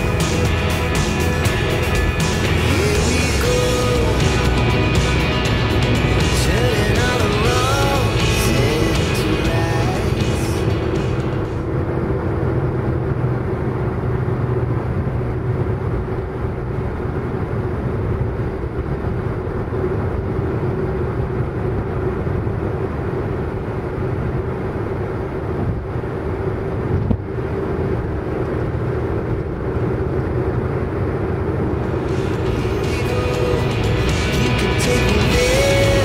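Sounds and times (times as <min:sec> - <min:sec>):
motor scooter engine humming: 0:00.0 - 0:36.0
road noise: 0:00.0 - 0:36.0.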